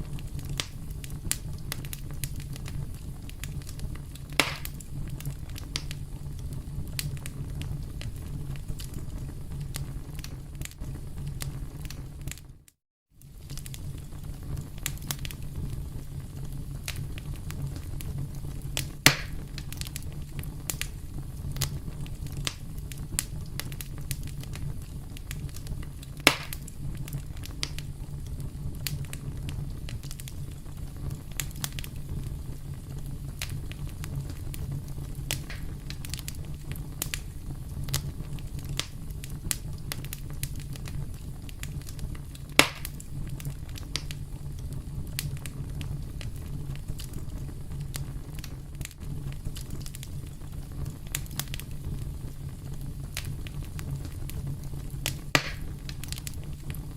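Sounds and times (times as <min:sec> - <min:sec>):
fire pops: 0:00.0 - 0:56.9
wood fire crackling: 0:00.0 - 0:56.9.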